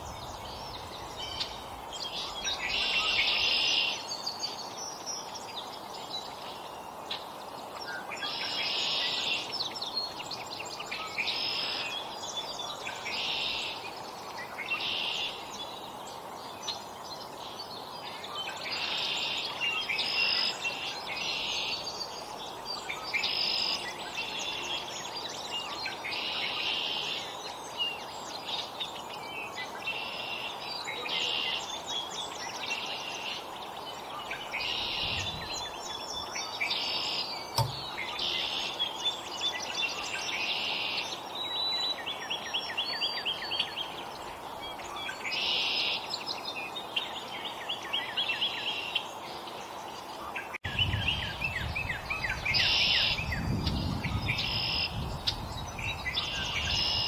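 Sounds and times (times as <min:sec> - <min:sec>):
outdoor background hiss: 0:00.0 - 0:57.0
songbirds chirping: 0:00.0 - 0:57.0.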